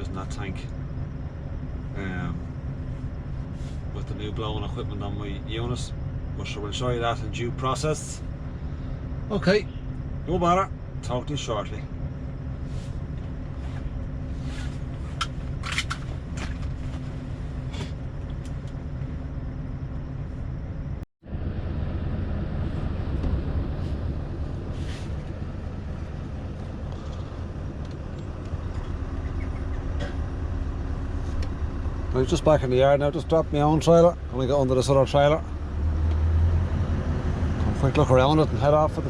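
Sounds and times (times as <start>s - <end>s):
road and cab noise: 0.0s - 39.0s
truck engine running: 0.0s - 39.0s.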